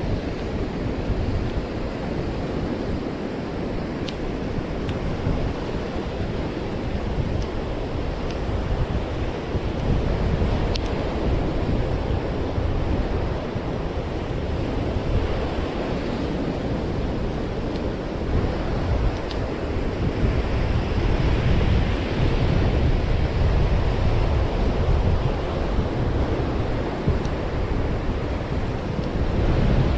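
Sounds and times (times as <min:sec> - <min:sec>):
ocean surf washing onto beach: 0:00.0 - 0:29.9
wind buffeting microphone: 0:00.0 - 0:29.9.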